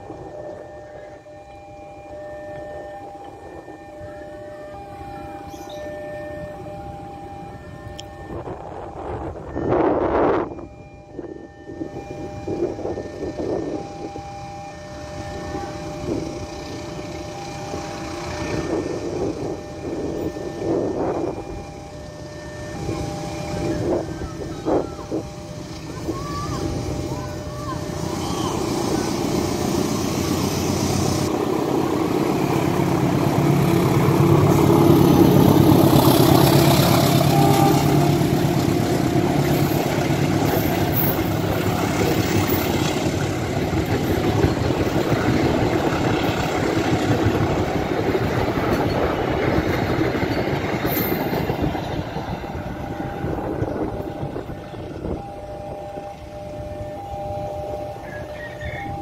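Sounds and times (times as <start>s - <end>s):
diesel locomotive engine: 0.0s - 59.0s
train wheels rumbling on rails: 0.0s - 59.0s.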